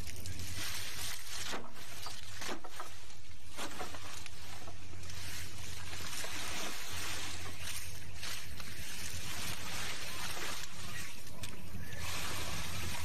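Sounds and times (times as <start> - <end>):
boat engine humming: 0.0 - 13.0
hiss of wind and water: 0.0 - 13.0.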